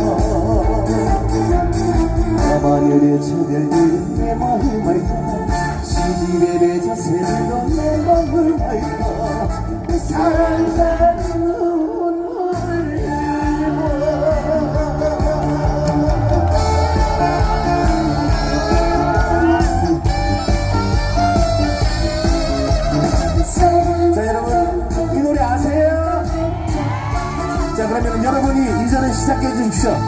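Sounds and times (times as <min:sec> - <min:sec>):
amplified concert music: 0:00.0 - 0:30.0.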